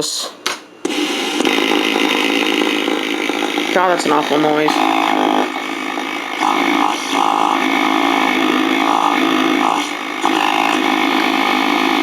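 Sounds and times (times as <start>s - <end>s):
loud steady-pitched speaker noise: 0.0s - 12.0s.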